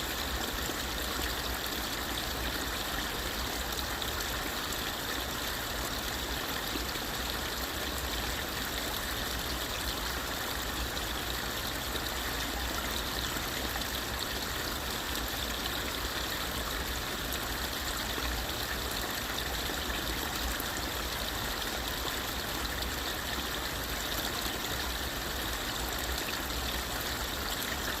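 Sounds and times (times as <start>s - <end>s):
creek water trickling: 0.0s - 28.0s.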